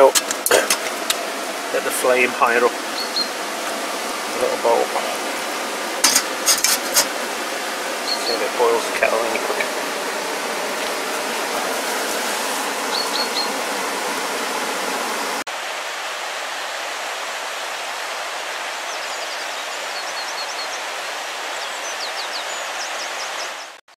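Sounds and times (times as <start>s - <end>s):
birds chirping: 0.0s - 15.4s, 18.7s - 23.8s
rushing water: 0.0s - 23.8s.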